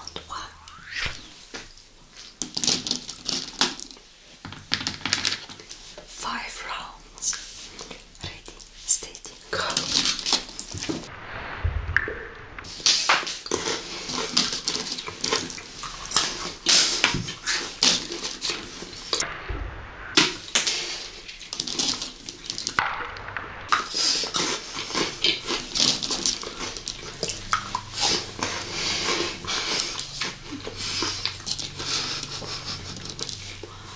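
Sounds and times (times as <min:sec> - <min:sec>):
crunching and chewing candy: 0:01.3 - 0:06.1, 0:07.4 - 0:11.1, 0:12.7 - 0:19.2, 0:20.2 - 0:22.8, 0:23.7 - 0:33.9.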